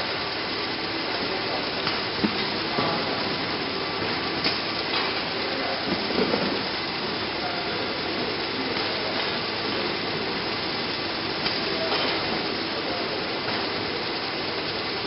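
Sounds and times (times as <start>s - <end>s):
conveyor rattling and humming: 0.0s - 15.0s.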